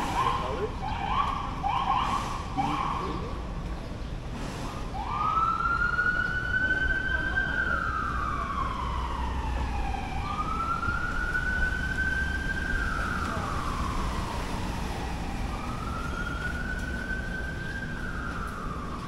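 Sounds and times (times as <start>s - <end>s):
emergency siren wailing: 0.0s - 3.5s, 4.8s - 19.0s.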